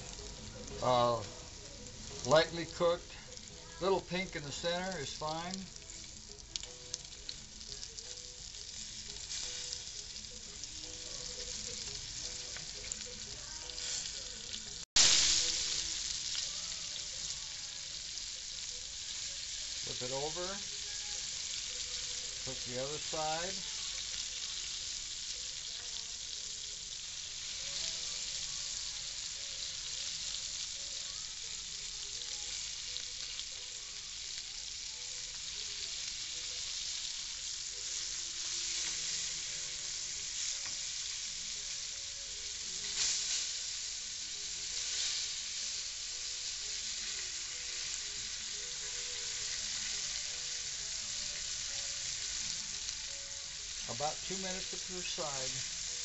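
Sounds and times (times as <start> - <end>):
liver sizzling in frying pan: 0.0 - 56.0.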